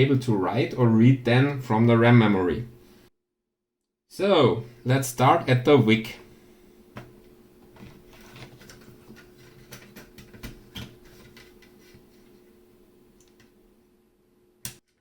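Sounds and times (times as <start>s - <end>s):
faint steady hum: 0.0s - 3.1s, 4.1s - 14.8s.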